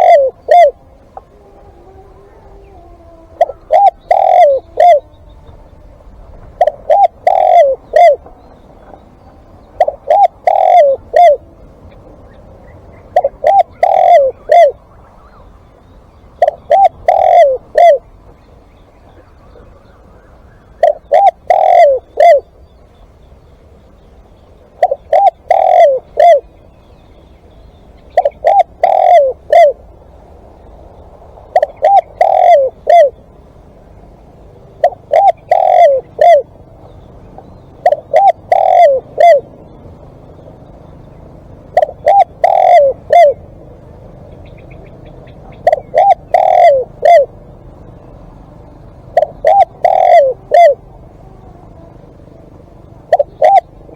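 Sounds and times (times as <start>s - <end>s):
dove cooing: 0.0s - 15.6s, 16.2s - 23.0s, 24.6s - 27.2s, 27.8s - 30.4s, 31.2s - 53.9s.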